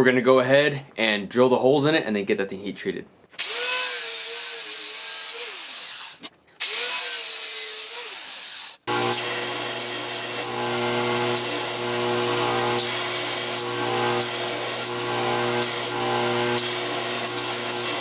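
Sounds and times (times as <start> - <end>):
power tool motor humming: 3.4 - 18.0.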